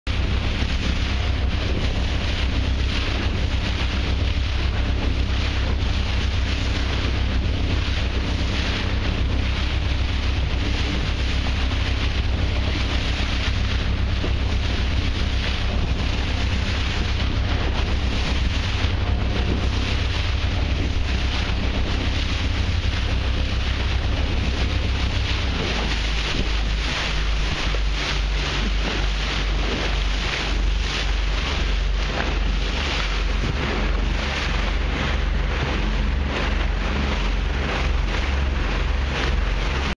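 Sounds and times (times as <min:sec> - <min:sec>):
sea water rushing around boat: 0:00.0 - 0:39.9
steady low rumble: 0:00.0 - 0:39.9
wind buffeting microphone: 0:00.1 - 0:39.9.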